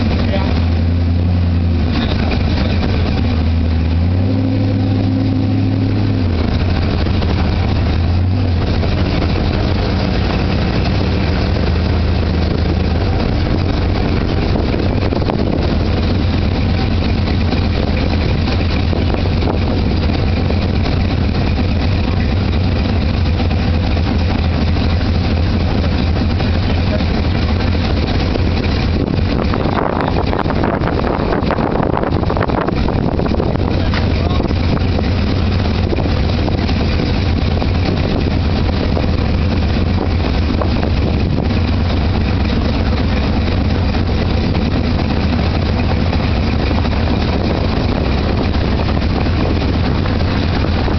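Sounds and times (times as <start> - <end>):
car engine humming: 0.0 - 50.9.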